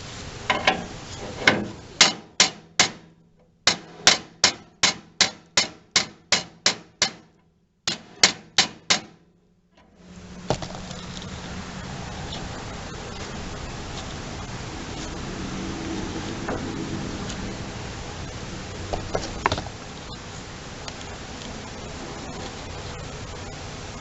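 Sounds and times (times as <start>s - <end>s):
steady hiss: 0.0s - 7.2s, 10.0s - 24.0s.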